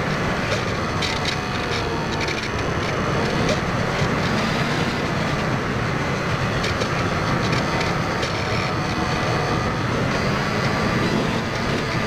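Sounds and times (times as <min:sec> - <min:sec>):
electric motor and propeller whine: 0:00.0 - 0:12.0.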